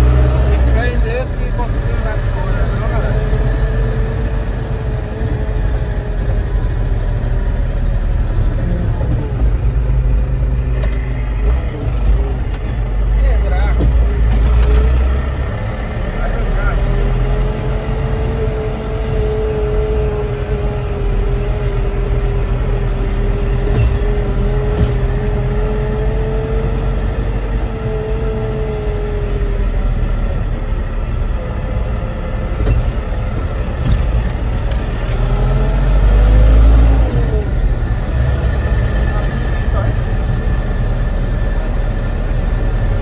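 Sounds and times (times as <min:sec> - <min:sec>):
truck engine and road rumble: 0:00.0 - 0:43.0.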